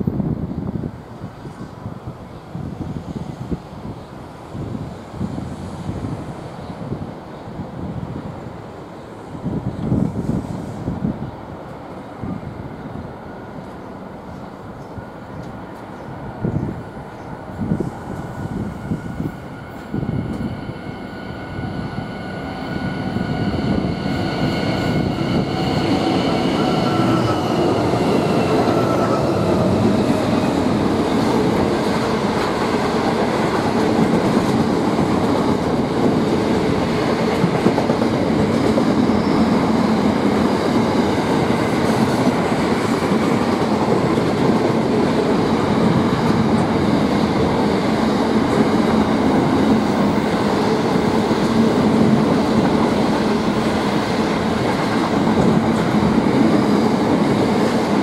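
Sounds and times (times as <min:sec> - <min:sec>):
diesel locomotive engines: 0:00.0 - 0:58.0
train wheels on rail: 0:00.0 - 0:58.0.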